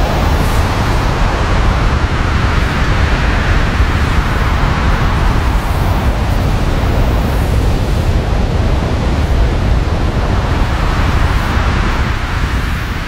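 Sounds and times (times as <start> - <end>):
strong mountain wind gusting: 0.0 - 13.0.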